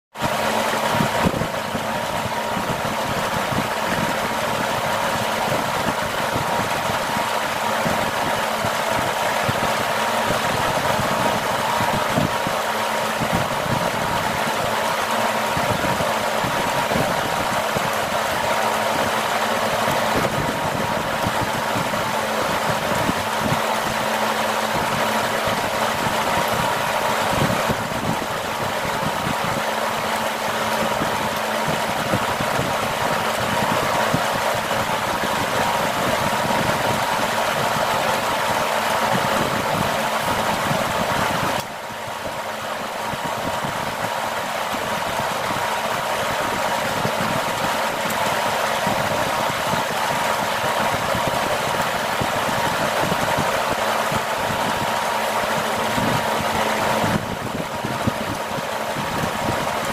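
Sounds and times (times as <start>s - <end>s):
machine hum and hiss: 0.0s - 59.9s.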